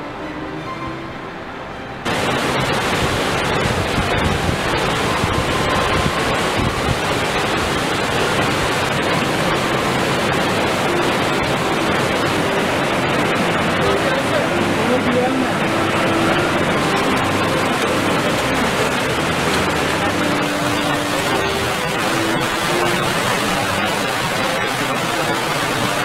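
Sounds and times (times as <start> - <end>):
rushing water: 0.0 - 26.0.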